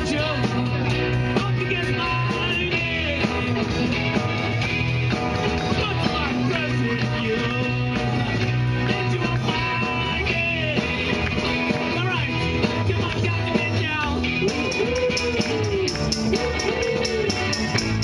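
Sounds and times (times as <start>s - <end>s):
drum kit steady beat: 0.0s - 18.0s
electric bass: 0.0s - 18.0s
electric guitars: 0.0s - 18.0s
sliding lead guitar line: 0.0s - 18.0s.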